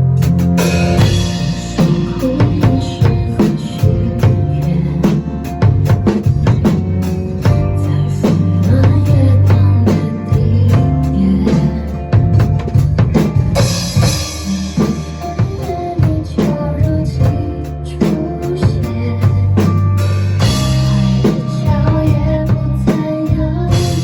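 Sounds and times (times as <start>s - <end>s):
drum kit playing along: 0.0s - 24.0s
pop song: 0.6s - 13.3s, 14.0s - 24.0s.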